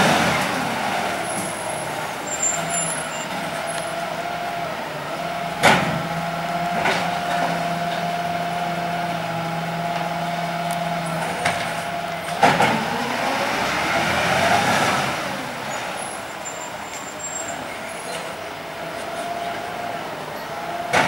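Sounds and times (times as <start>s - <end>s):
garbage truck engine revving: 0.0s - 21.0s.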